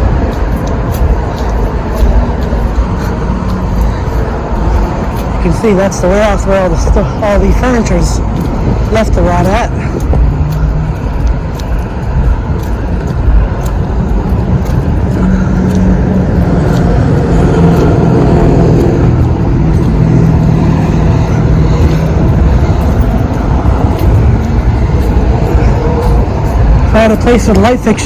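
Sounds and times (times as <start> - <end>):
engine low hum: 0.0 - 28.0.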